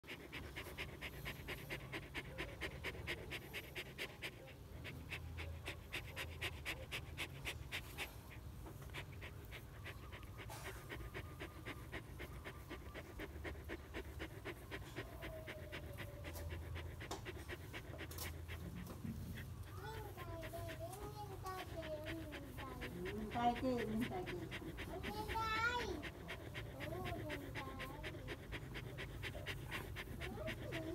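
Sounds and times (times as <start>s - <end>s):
dog panting: 0.0s - 30.9s.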